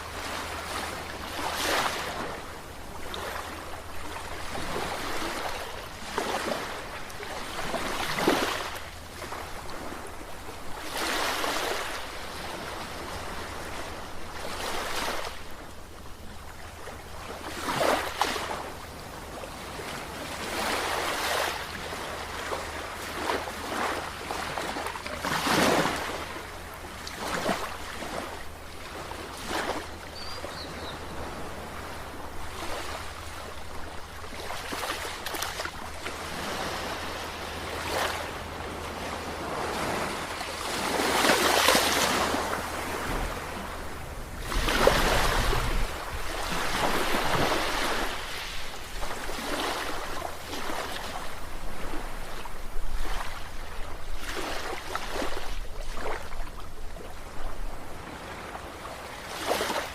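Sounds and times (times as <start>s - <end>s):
ocean waves breaking: 0.0s - 15.7s, 16.3s - 59.9s.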